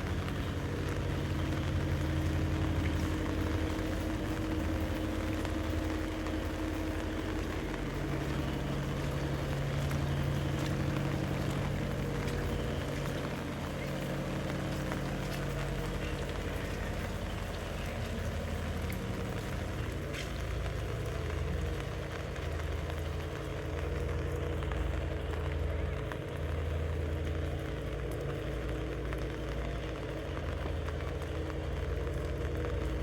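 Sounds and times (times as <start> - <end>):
low rumble: 0.0 - 33.0
steady hum: 0.0 - 33.0
steady rain falling: 0.0 - 33.0.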